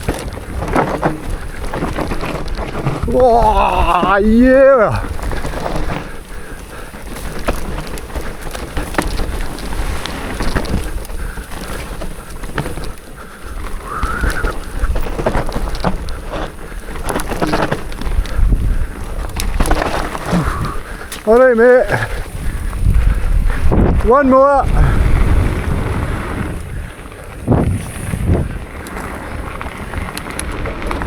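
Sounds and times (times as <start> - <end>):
mountain bike rattling on trail: 0.0 - 31.0
wind buffeting microphone: 0.0 - 31.0.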